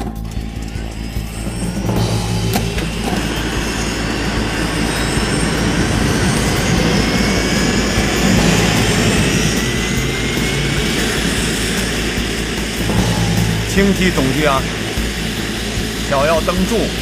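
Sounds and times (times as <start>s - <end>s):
helicopter rotor running: 0.0s - 17.0s
helicopter turbine whine rising: 0.0s - 17.0s.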